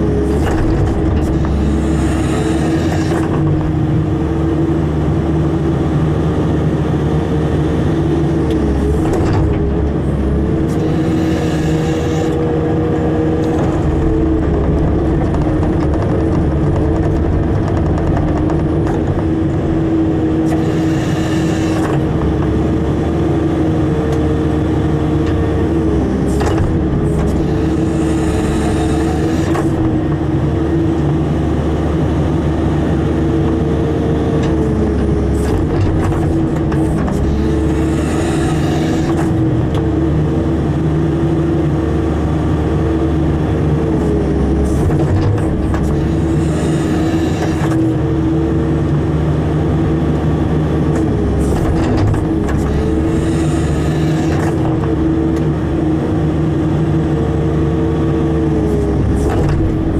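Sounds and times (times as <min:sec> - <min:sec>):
hydraulic whine: 0:00.0 - 0:05.8, 0:07.7 - 0:59.9
diesel engine running: 0:00.0 - 0:59.9.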